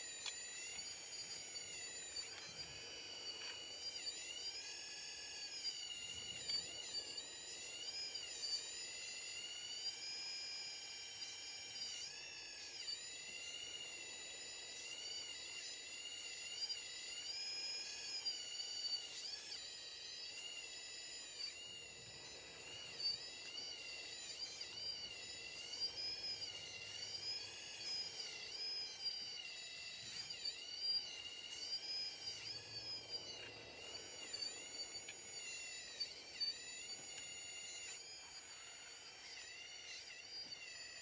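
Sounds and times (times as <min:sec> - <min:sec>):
electric motors whining: 0:00.0 - 0:41.0.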